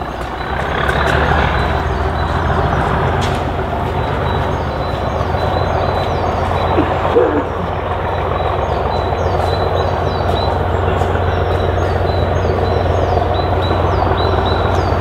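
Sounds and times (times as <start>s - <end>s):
distant diesel locomotive engine: 0.0s - 15.0s
small birds chirping: 0.0s - 15.0s.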